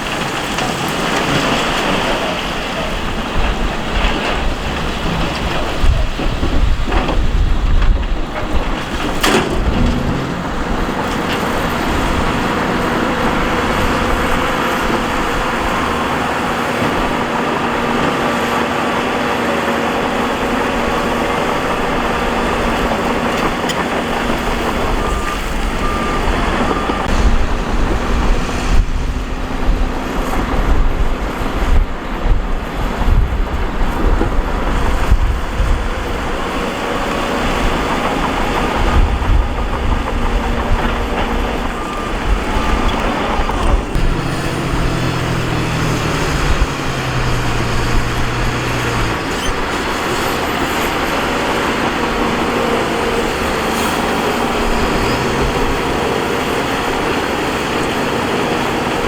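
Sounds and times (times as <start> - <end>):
heavy diesel machinery engine: 0.0 - 59.0
rumble of rock and gravel: 0.0 - 59.0.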